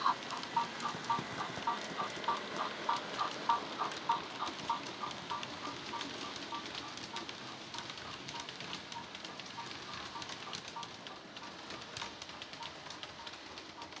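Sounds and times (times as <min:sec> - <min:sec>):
model steam locomotive chuffs: 0:00.0 - 0:14.0
model wheels ticking on track: 0:00.0 - 0:14.0.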